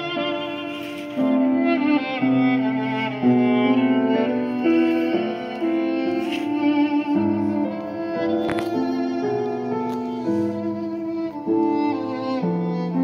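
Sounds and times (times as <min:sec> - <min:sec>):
violin and piano music from speakers: 0:00.0 - 0:13.0.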